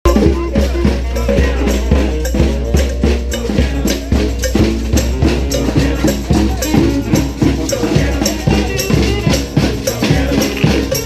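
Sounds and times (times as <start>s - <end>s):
brass band horns: 0.1s - 11.0s.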